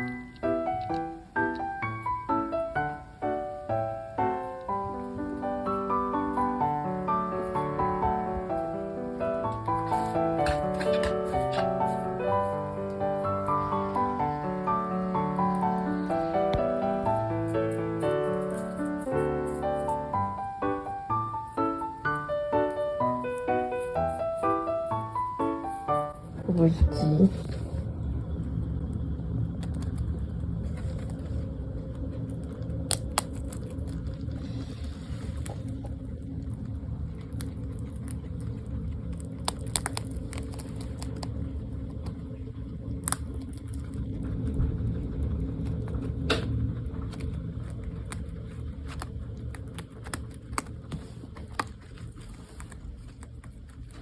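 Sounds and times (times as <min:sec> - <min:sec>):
guinea pig purring: 0:00.0 - 0:54.0.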